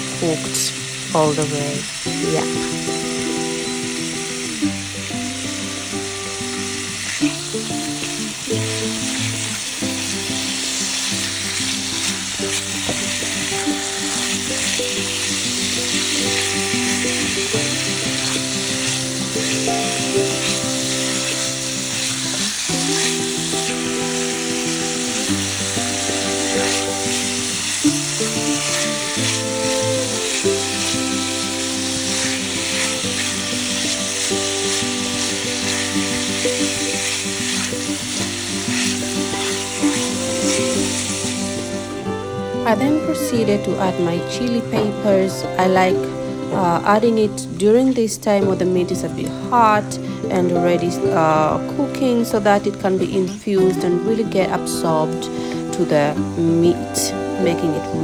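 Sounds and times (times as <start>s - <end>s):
background music with held notes: 0.0s - 58.0s
meat sizzling in hot oil: 0.0s - 58.0s.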